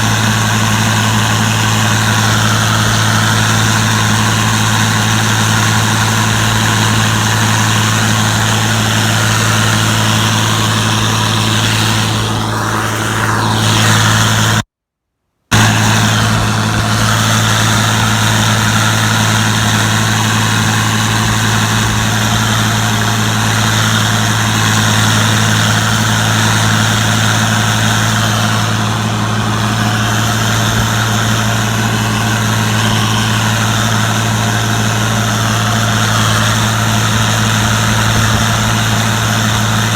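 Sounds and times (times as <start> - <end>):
combine harvester engine drone: 0.0 - 14.7, 15.5 - 39.9.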